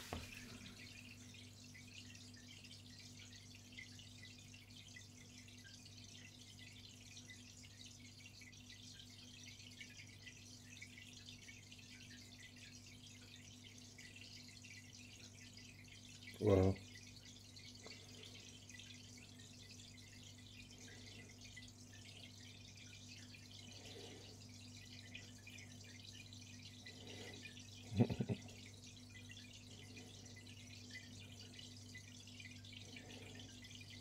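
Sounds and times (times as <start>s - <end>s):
aquarium filter humming: 0.0s - 34.0s
water trickling and dripping: 0.0s - 34.0s.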